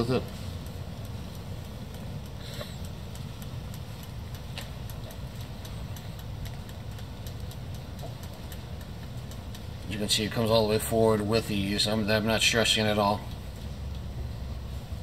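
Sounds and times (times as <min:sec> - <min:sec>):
crank and leadscrew ticking: 0:00.0 - 0:14.1
low machine hum: 0:00.0 - 0:15.0.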